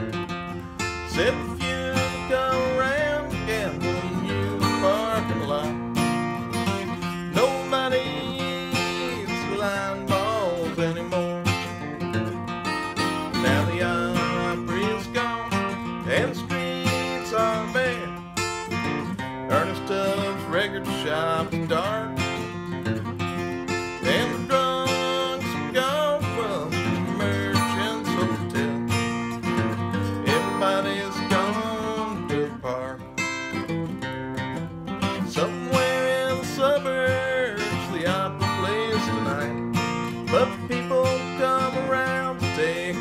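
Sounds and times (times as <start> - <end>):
acoustic guitar folk tune: 0.0 - 43.0.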